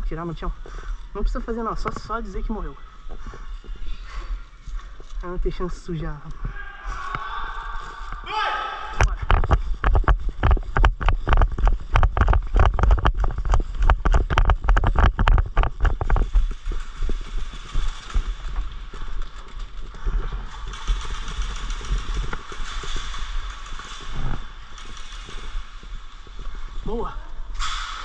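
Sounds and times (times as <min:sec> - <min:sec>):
footsteps: 0:00.0 - 0:28.0
gear rattling against camera: 0:00.0 - 0:28.0.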